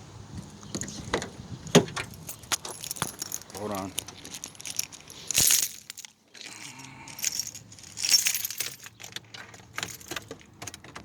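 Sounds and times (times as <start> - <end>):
car keys jangling: 1.8 - 11.0.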